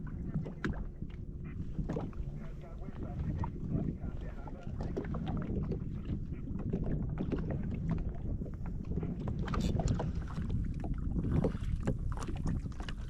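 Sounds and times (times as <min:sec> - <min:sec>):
water slapping against hull: 0:00.0 - 0:13.0
wind rumble on microphone: 0:00.0 - 0:13.0.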